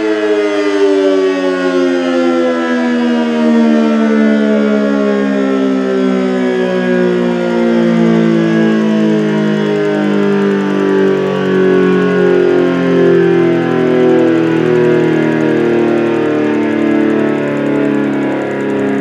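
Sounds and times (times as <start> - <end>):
warning siren chord: 0.0 - 19.0.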